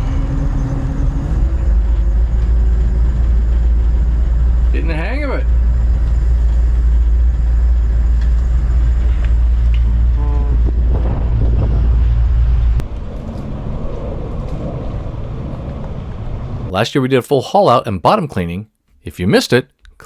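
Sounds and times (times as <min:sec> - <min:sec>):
vehicle engine rumbling: 0:00.0 - 0:16.9
outdoor background: 0:00.0 - 0:20.0.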